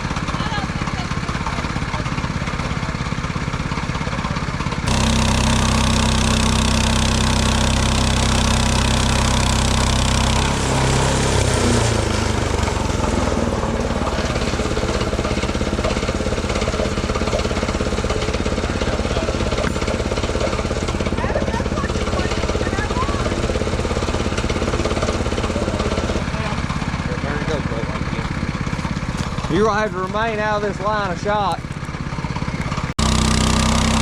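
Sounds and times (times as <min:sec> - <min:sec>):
small gas engine running: 0:00.0 - 0:34.0.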